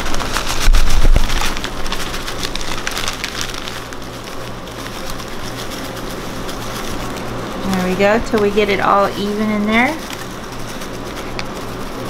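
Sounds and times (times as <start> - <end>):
cookie crumbs pattering into glass pan: 0.0 - 12.0
low steady hum: 0.0 - 12.0.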